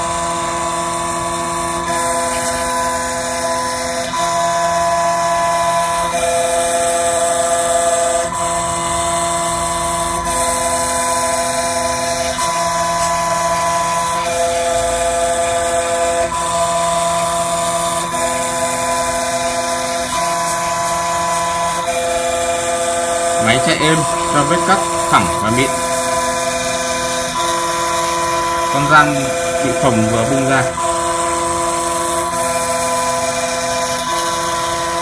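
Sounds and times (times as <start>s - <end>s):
cnc machine motors whining: 0.0s - 35.0s.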